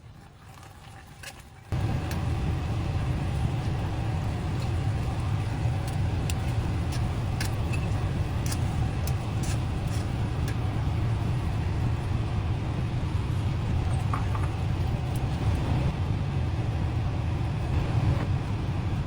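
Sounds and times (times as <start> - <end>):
steady low rumble: 1.7 - 19.0.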